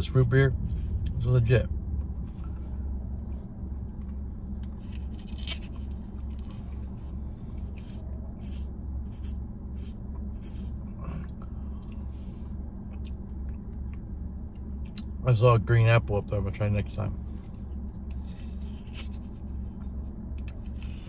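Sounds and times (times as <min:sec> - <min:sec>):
car cabin hum: 0:00.0 - 0:21.0.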